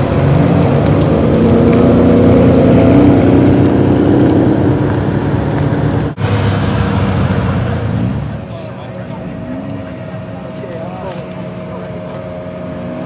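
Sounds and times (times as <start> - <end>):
car engine pulling away: 0.0 - 13.0.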